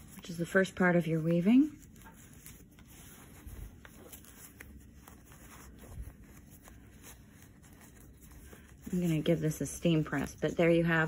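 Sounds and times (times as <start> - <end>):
fabric purse rustling: 0.0 - 11.0.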